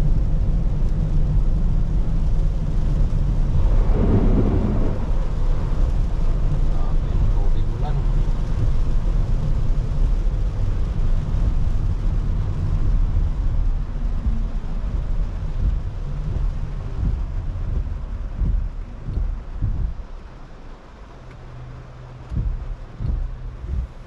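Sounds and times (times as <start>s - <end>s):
car tyres and engine rumble: 0.0s - 24.0s
hiss of water and rain: 0.0s - 24.0s.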